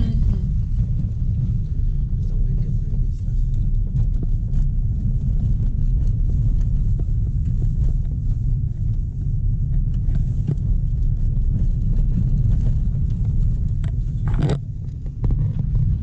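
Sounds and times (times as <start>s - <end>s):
car rumbling on dirt road: 0.0s - 16.0s.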